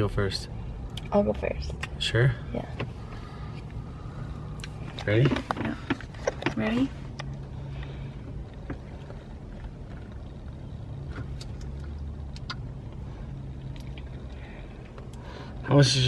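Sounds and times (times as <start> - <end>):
car idling hum: 0.0 - 16.0.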